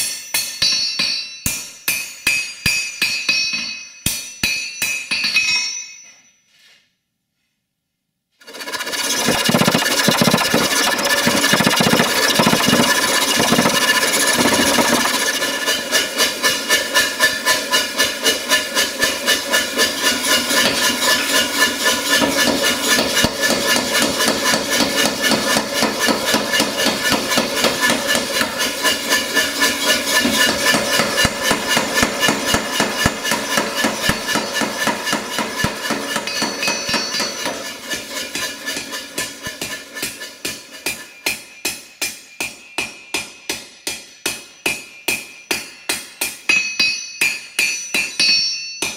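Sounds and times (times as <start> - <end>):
power hammer striking steel: 0.0 - 6.0, 8.4 - 48.9.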